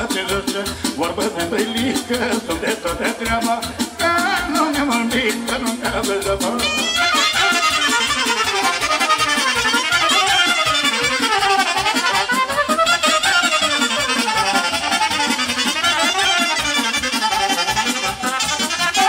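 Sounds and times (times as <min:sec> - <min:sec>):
live folk band playing: 0:00.0 - 0:19.0.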